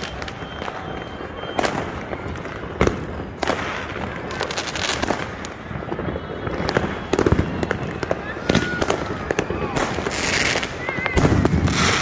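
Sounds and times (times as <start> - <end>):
distant fireworks: 0.0 - 12.0
firework bangs and crackles: 0.0 - 12.0.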